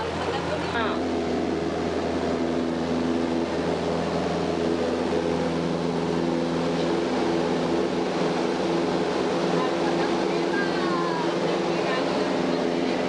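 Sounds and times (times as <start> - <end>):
light aircraft engine from cabin: 0.0 - 13.0.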